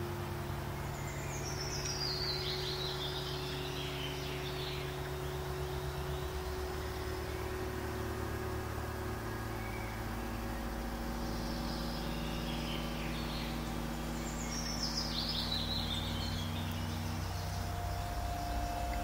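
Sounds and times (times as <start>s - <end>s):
low steady drone: 0.0s - 19.0s.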